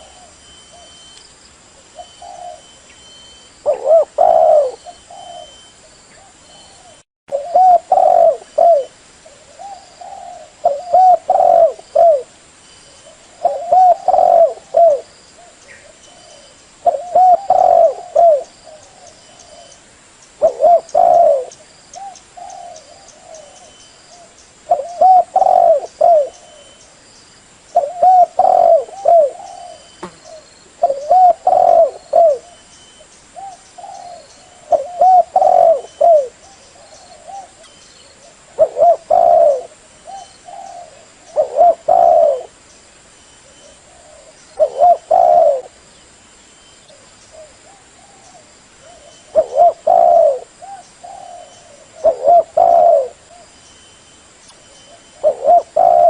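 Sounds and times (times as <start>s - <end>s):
dove cooing: 0.0s - 1.0s, 1.9s - 12.3s, 13.0s - 19.8s, 20.4s - 26.8s, 27.8s - 32.7s, 33.4s - 42.6s, 43.4s - 45.8s, 46.9s - 53.5s, 54.6s - 56.0s.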